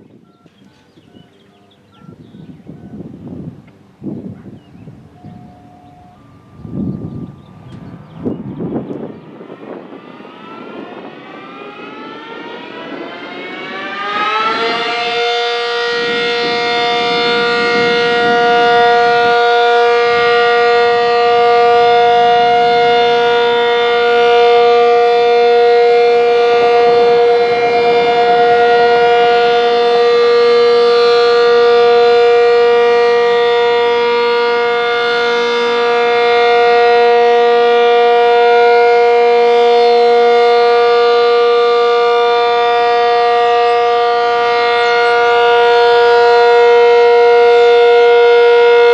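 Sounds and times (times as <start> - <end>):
dual-tone warning siren: 0.0 - 48.9.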